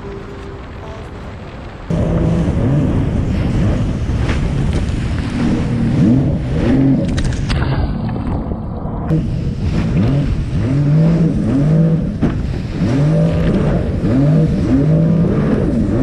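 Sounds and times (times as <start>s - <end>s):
water rushing and splashing: 0.0s - 16.0s
jet ski engine running hard: 1.9s - 16.0s.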